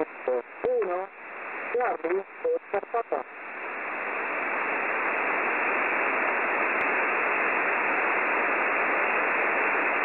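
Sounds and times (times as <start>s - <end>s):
radio band noise hiss: 0.0s - 10.0s.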